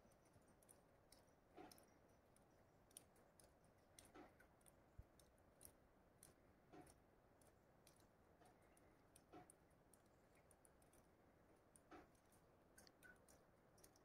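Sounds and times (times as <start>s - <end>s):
faint ticks: 0.0s - 14.0s.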